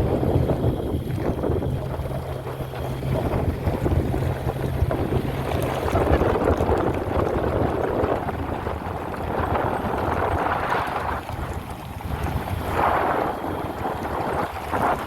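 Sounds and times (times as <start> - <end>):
car engine droning: 0.0 - 15.0
wind buffeting microphone: 0.0 - 15.0.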